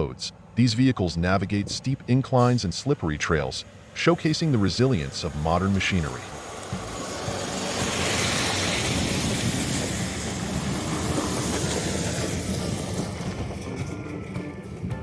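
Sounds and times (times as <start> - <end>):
broad rushing noise: 0.0 - 13.4
truck engine rumbling: 0.0 - 15.0.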